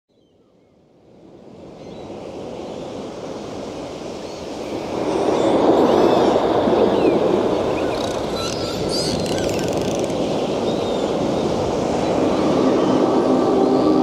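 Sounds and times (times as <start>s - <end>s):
ocean waves and surf: 0.6s - 14.0s.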